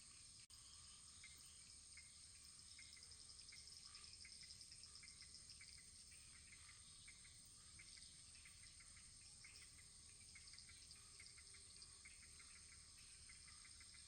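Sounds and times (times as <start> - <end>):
soft steady hiss: 0.0 - 14.0.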